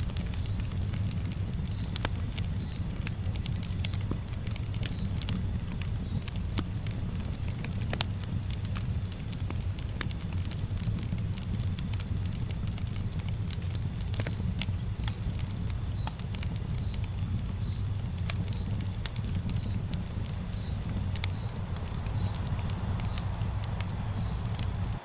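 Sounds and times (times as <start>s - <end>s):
campfire flames rushing: 0.0s - 25.0s
wood crackling and popping: 0.0s - 25.0s.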